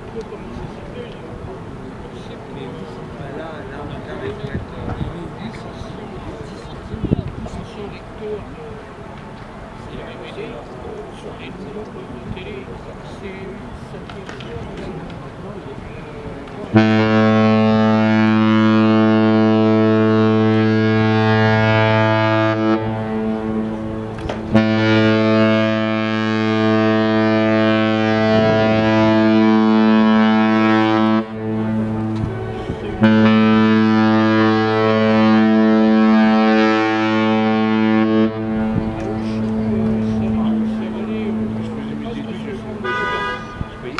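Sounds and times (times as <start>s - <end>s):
deep ship horn blasts: 0.0s - 10.6s, 12.3s - 43.9s.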